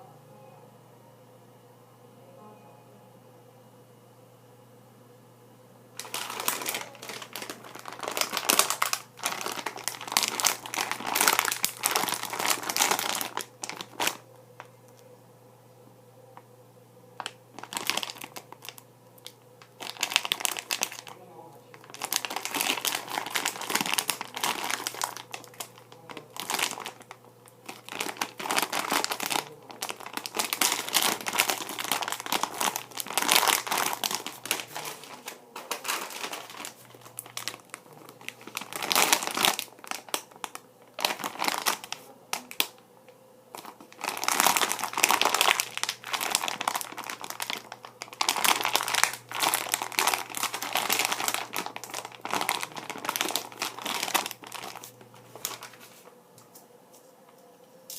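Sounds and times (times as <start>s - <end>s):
plastic packaging crinkling: 6.0s - 15.0s, 17.2s - 42.8s, 43.5s - 56.2s.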